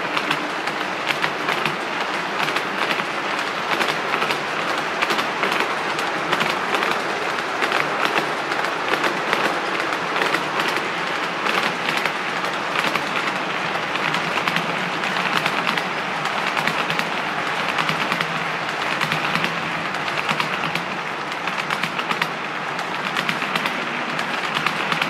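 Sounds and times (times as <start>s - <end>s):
model train cars rolling on track: 0.0s - 25.0s.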